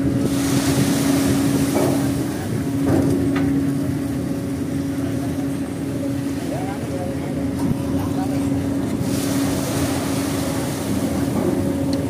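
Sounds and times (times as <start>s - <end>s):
heavy diesel engine humming: 0.0s - 12.0s.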